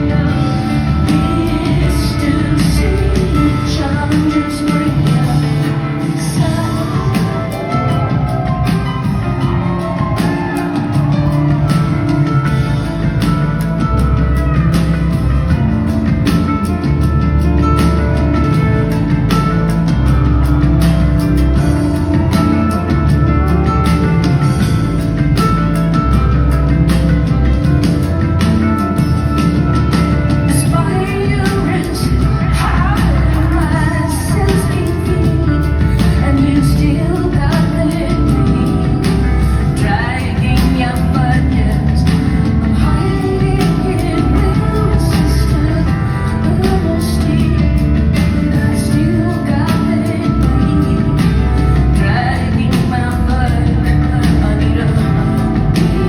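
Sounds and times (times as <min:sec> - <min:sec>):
drum beat: 0:00.0 - 0:45.6
deep bass line: 0:00.0 - 0:56.0
live band playing: 0:00.0 - 0:56.0.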